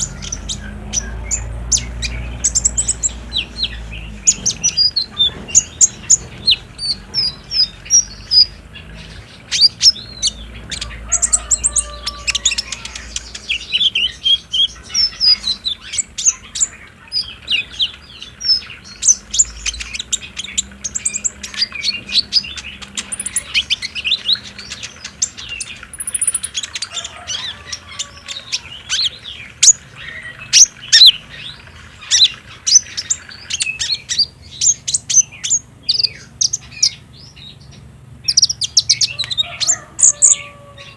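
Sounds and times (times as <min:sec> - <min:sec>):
sunbird chattering song: 0:00.0 - 0:40.9.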